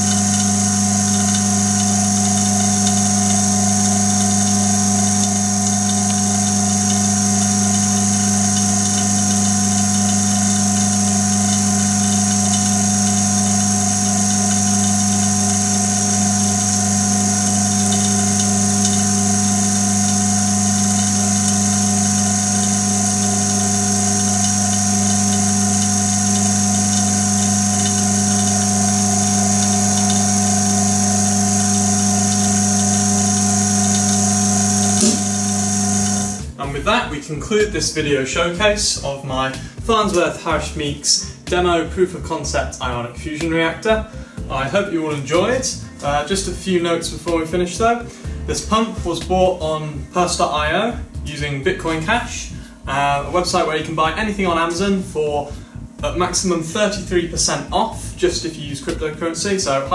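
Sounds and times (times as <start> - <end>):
vacuum pump humming with whine: 0.0 - 59.9.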